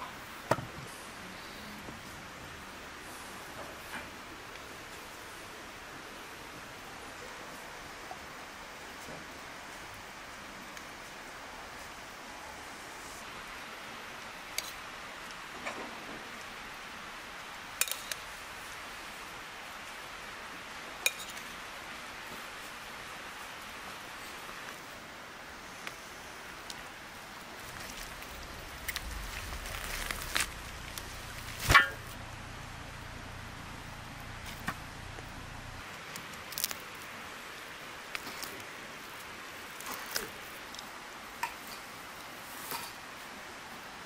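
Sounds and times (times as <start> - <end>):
steady background hiss: 0.0 - 44.0.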